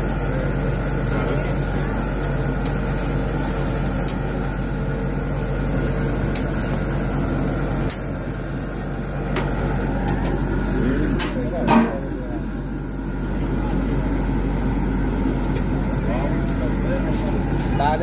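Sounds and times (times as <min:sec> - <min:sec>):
grill hum and hiss: 0:00.0 - 0:18.0.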